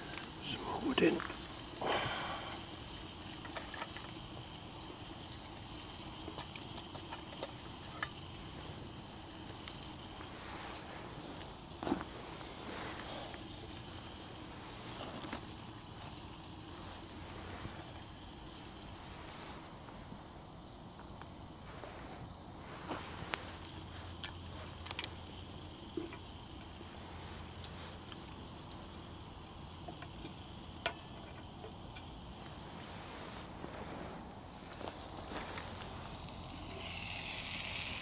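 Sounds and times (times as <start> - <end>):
chicken sizzling in frying pan: 0.0 - 38.0
wood fire crackling: 0.0 - 38.0.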